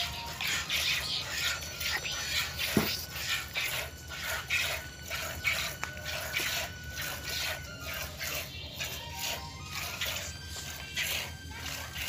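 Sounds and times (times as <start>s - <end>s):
milk squirting into plastic bucket: 0.4s - 12.0s.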